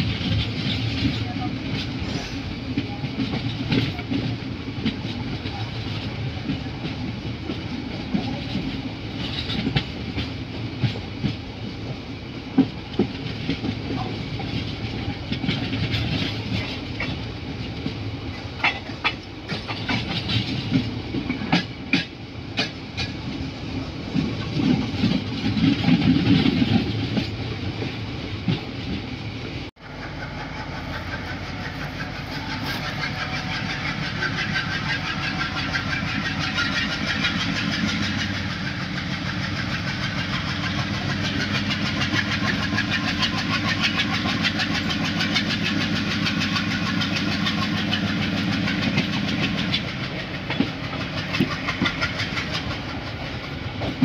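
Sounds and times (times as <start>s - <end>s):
smooth train running sound: 0.0s - 54.0s
train wheels clicking over rail joints: 0.0s - 54.0s.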